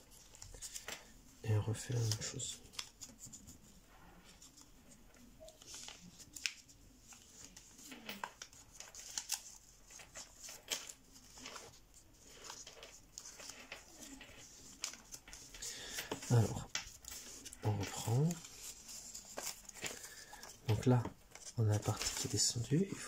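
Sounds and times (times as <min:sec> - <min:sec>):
paper crinkling: 0:00.0 - 0:01.1, 0:01.7 - 0:22.8
paper being folded: 0:00.0 - 0:22.9.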